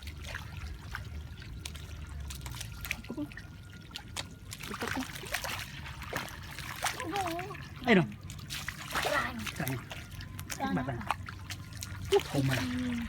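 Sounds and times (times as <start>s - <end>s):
small sharp splashes: 0.0s - 13.0s
water trickling and dripping: 0.0s - 13.0s.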